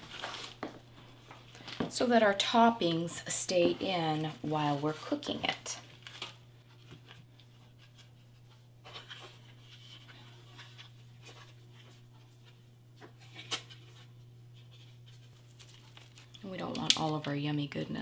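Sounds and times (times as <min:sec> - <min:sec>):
parchment paper rustling: 0:00.0 - 0:17.6
steady low hum: 0:00.0 - 0:18.0.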